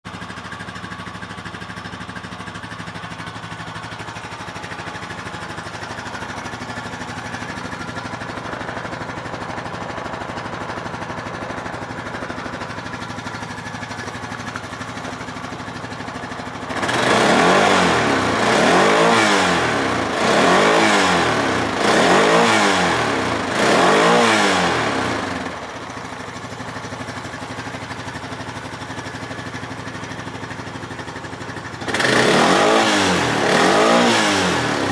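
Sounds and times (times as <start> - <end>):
atv engine idling and revving: 0.0 - 34.9.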